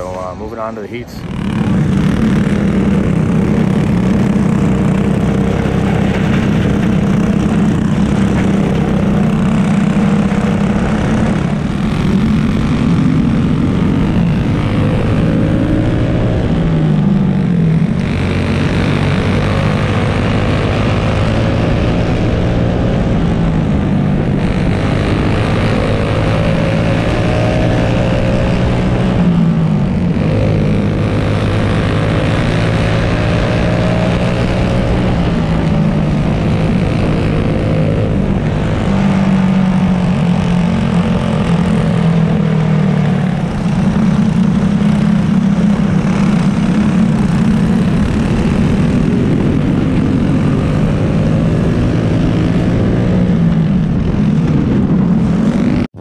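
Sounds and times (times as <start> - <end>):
kart engine running hard: 0.0 - 56.0
other kart engines: 0.0 - 56.0.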